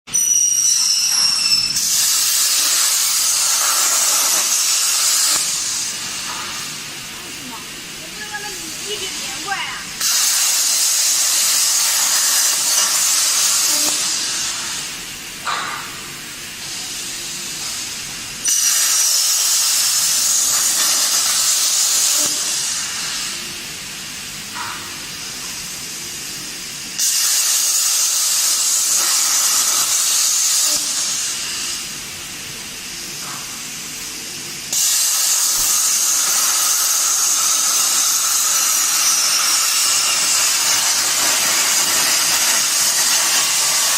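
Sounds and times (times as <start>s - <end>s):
plasma torch hissing: 0.6s - 43.9s.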